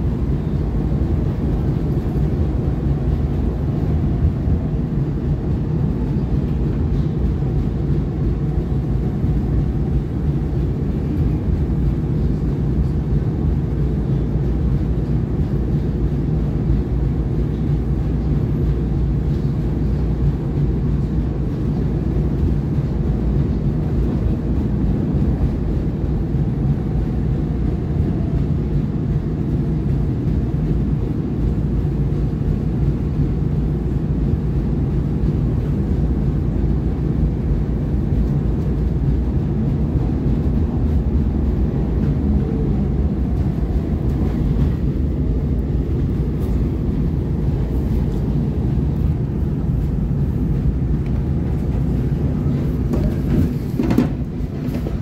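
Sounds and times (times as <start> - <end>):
train rumbling on elevated track: 0.0 - 55.0.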